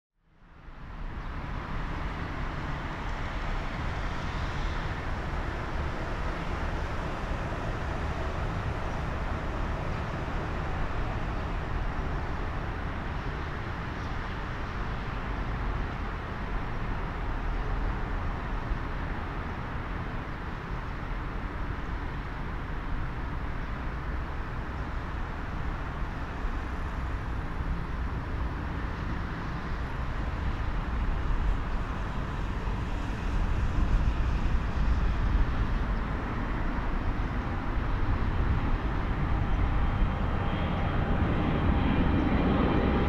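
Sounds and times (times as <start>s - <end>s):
jet engines roaring: 2.1s - 43.0s.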